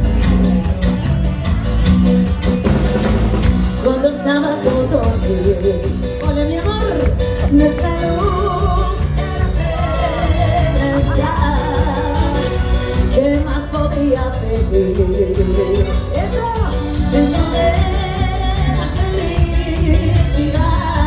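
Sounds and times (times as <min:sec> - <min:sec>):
live band playing dance music: 0:00.0 - 0:21.0
person singing: 0:03.6 - 0:21.0.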